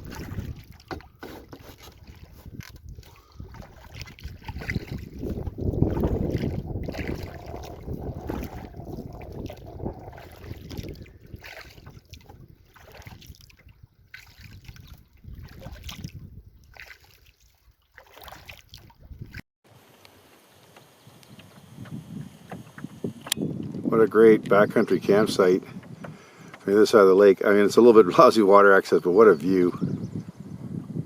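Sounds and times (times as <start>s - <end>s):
wind rumble on microphone: 0.0s - 16.9s, 18.3s - 19.4s, 21.1s - 31.0s
paddle splashing water: 0.0s - 19.4s, 21.4s - 28.0s.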